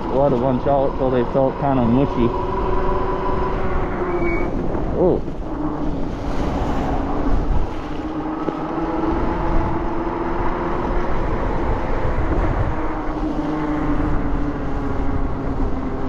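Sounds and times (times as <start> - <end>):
electric bike motor hum: 0.0 - 16.0
wind rumble on microphone: 0.0 - 16.0.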